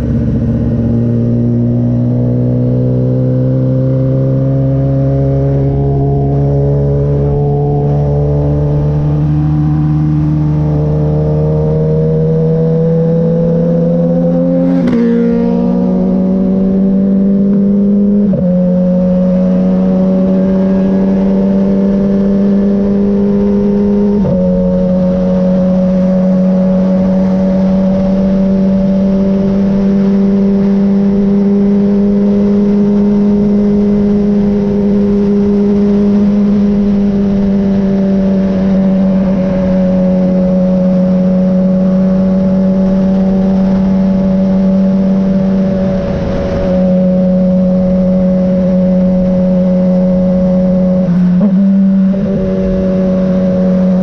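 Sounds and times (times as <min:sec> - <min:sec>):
motorcycle engine running: 0:00.0 - 0:54.0
wind noise: 0:04.8 - 0:54.0.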